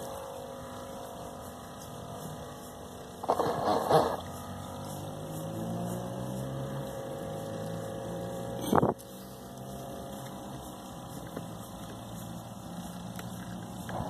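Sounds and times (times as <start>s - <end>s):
model boat motor running: 0.0s - 14.0s.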